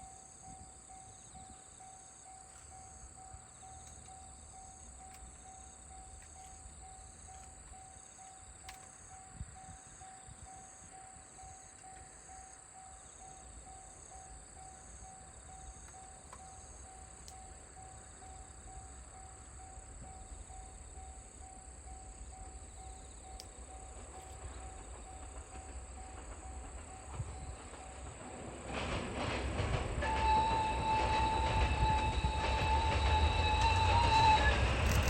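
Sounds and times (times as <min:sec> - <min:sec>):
insects chirping: 0:00.0 - 0:35.0
train approaching rumble: 0:00.0 - 0:35.0.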